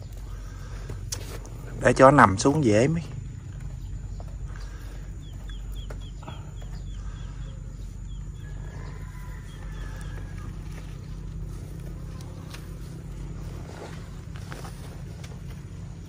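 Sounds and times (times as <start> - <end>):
bird chirping: 0.0 - 16.0
steady low rumble: 0.0 - 16.0.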